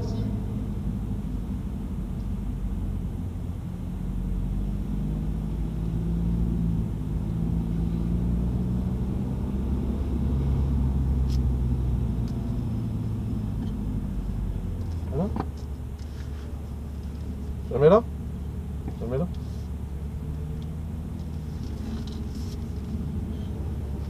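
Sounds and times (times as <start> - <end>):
car engine running near idle: 0.0 - 5.9, 6.5 - 24.0.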